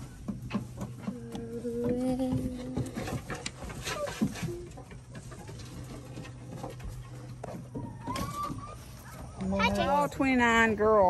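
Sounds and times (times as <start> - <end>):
hens scratching and pecking: 0.0 - 10.7.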